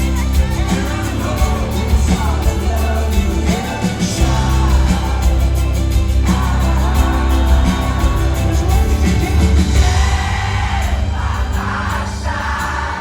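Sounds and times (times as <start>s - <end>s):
crowd voices: 0.0s - 13.0s
person singing: 0.0s - 13.0s
rock band playing live: 0.0s - 13.0s.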